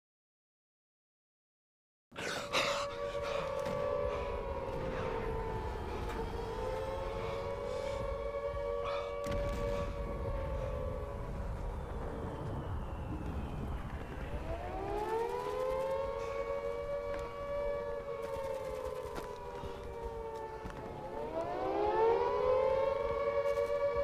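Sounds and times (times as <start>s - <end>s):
air-raid siren wailing: 2.2s - 24.0s.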